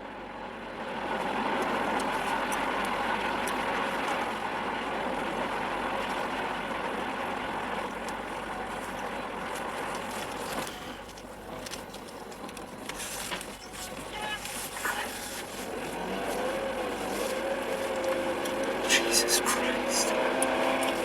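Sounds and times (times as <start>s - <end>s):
vehicle road and engine noise: 0.0s - 21.0s.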